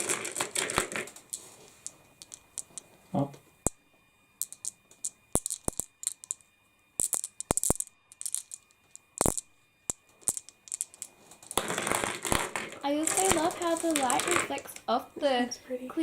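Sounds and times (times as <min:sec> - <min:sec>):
crystals clinking together: 0:00.0 - 0:03.0, 0:04.4 - 0:14.8.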